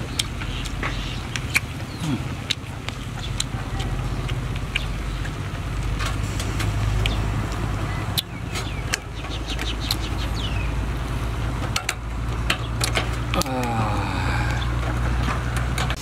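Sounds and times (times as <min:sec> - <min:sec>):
clicks and smacks of eating snails: 0:00.0 - 0:10.4, 0:11.6 - 0:16.0.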